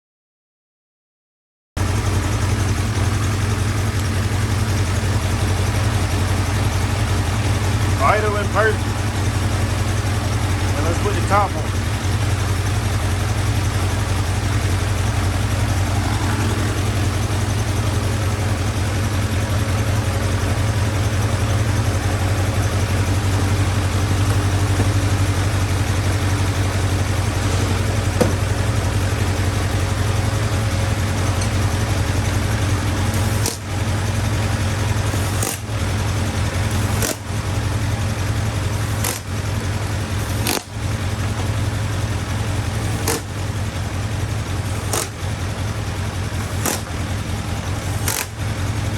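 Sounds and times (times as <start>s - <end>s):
motorcycle engine idling: 1.8s - 48.9s.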